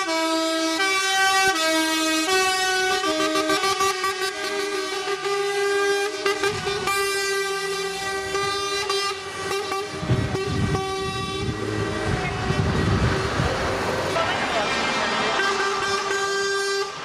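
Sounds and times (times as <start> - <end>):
truck air horns: 0.0 - 12.9, 14.6 - 17.0
truck engines rumbling: 0.0 - 17.0.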